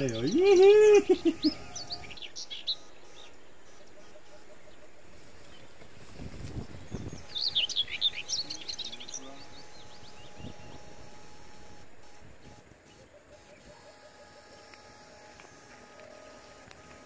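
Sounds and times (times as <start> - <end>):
bird singing high chirps: 0.0 - 17.0
outdoor background noise: 0.0 - 17.0.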